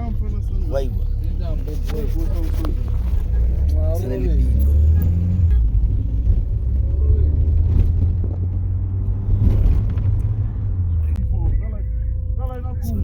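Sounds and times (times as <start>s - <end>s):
car rumbling on the move: 0.0s - 13.0s.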